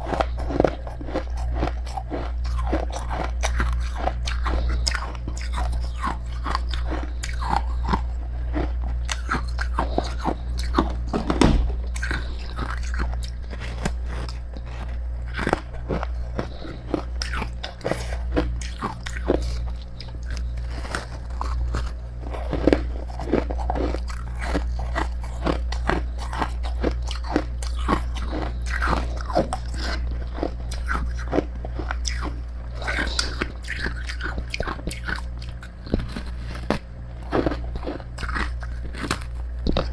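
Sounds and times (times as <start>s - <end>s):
crunching ice chewing: 0.0s - 39.9s
steady low hum: 0.0s - 39.9s.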